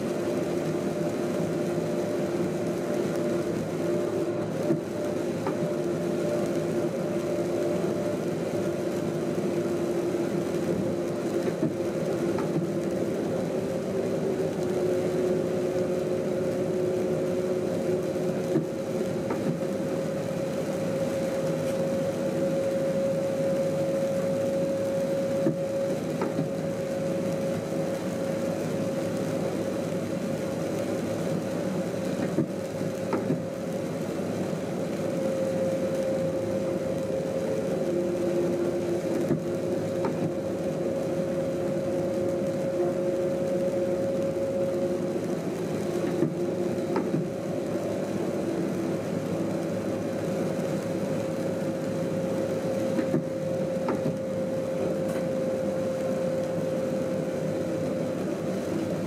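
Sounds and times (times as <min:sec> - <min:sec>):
steady humming tones: 0:00.0 - 0:59.0
train running gear rumble: 0:00.2 - 0:59.0.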